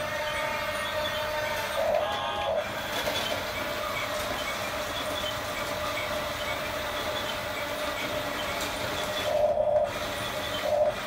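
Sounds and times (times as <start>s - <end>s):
toy bulldozer motors whining: 0.0s - 11.0s.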